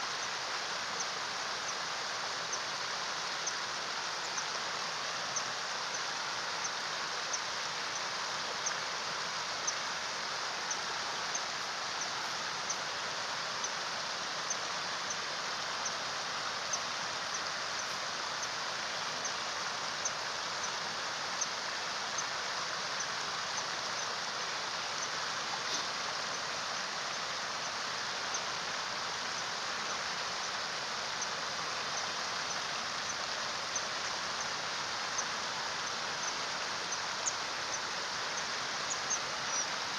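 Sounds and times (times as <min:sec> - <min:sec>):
faint high-pitched ticks: 0:00.0 - 0:39.9
stream water rushing: 0:00.0 - 0:39.9.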